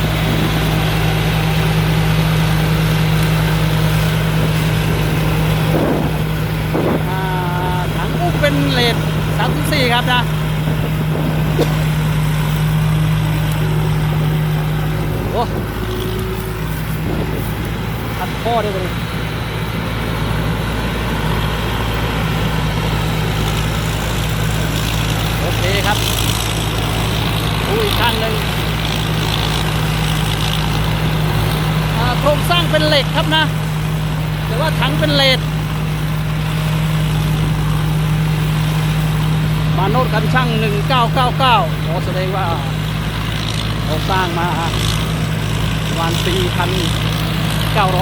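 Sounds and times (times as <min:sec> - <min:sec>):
combine harvester diesel engine drone: 0:00.0 - 0:48.0.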